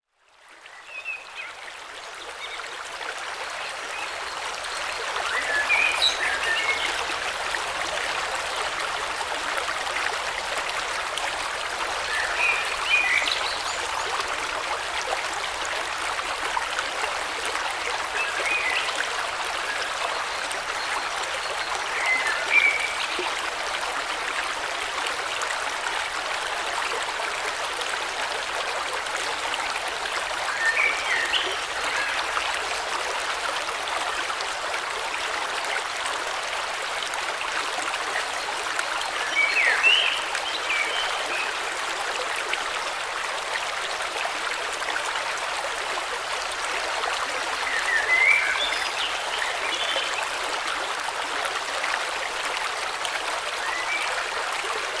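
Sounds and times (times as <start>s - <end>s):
river water flowing: 0.2s - 55.0s.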